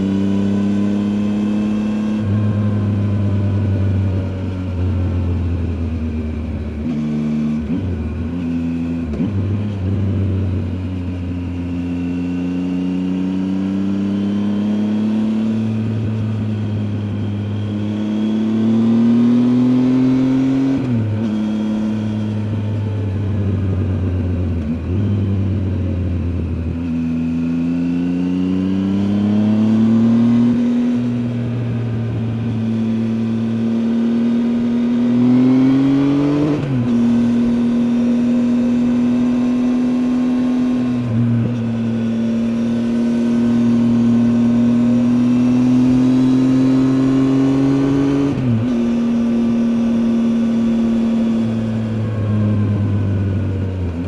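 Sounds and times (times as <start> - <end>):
motorcycle engine accelerating through gears: 0.0 - 54.0.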